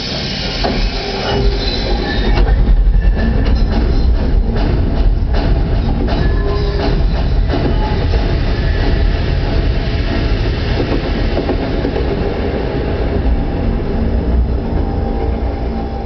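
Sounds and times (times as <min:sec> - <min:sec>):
train rumbling through tunnel: 0:00.0 - 0:16.0.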